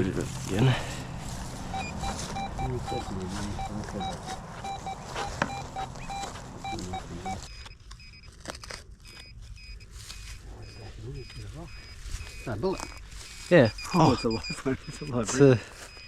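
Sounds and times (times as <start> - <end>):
metal detector beeping: 1.7 - 16.0.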